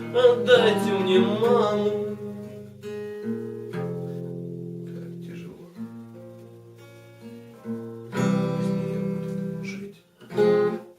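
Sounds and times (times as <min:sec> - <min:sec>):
acoustic guitar chords: 0:00.0 - 0:10.9.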